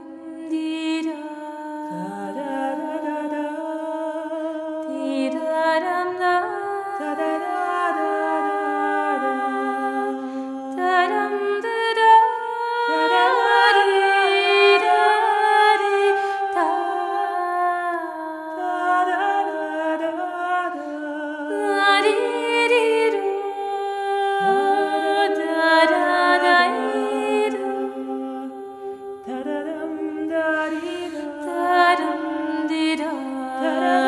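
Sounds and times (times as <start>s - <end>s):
voices humming and singing: 6.4s - 34.0s.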